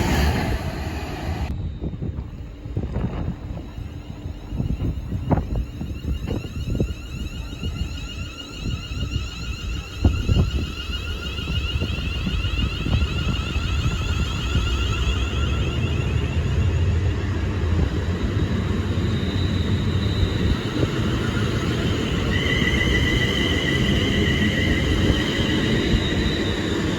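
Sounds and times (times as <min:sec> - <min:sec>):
high whine: 0:00.0 - 0:26.9
train rumble: 0:00.0 - 0:26.9
wind on microphone: 0:00.0 - 0:26.9.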